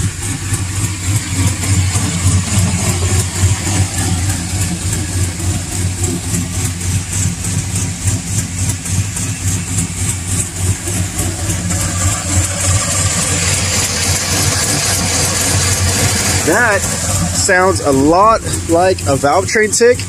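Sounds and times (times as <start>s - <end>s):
fast exhaust leak tick: 0.0s - 20.0s
truck engine idling: 0.0s - 20.0s.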